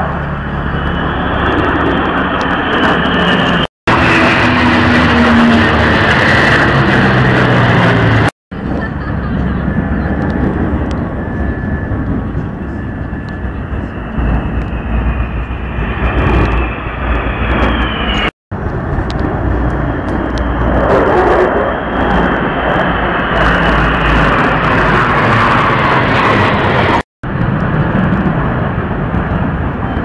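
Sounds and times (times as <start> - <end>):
aircraft passing overhead: 0.0 - 30.0.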